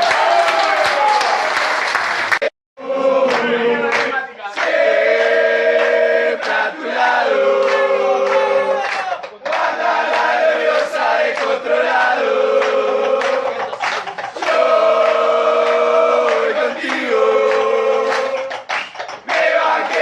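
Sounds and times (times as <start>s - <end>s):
group singing long notes: 2.3s - 20.0s.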